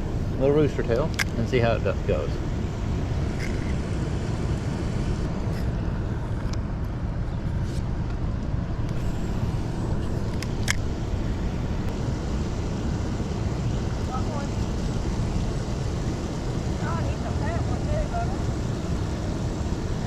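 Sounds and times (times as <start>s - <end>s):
low rumbling noise: 0.0s - 20.0s.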